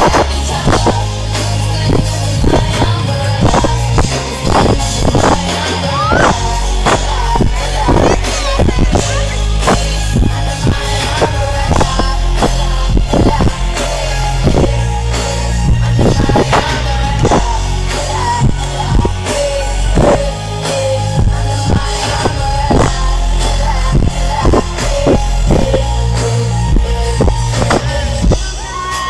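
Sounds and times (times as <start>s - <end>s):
live pop-rock band: 0.0s - 29.0s
person singing: 0.0s - 29.0s.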